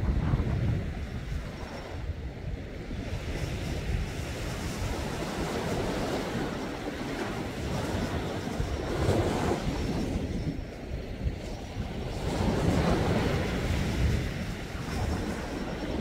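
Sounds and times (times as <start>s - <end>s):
sea waves washing in: 0.0s - 16.0s
wind rumbling on microphone: 0.0s - 16.0s.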